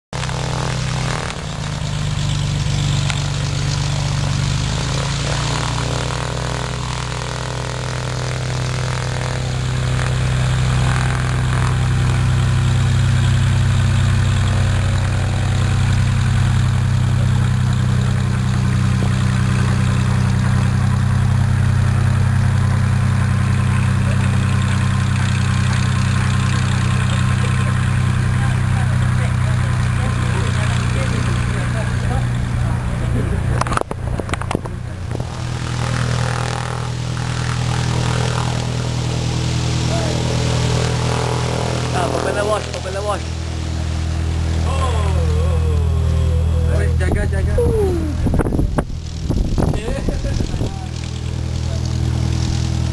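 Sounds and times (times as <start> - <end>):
propeller aircraft engine droning: 0.1 - 52.9.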